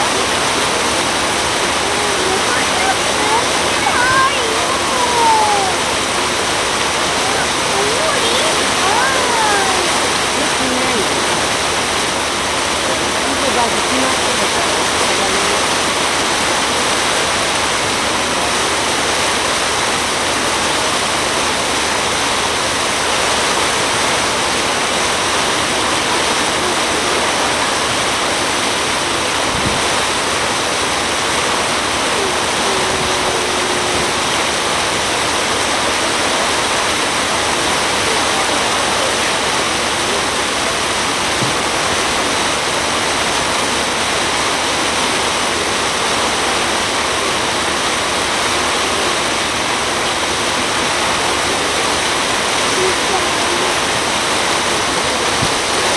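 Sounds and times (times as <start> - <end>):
water streaming past hull: 0.0 - 55.9
wind: 0.0 - 55.9.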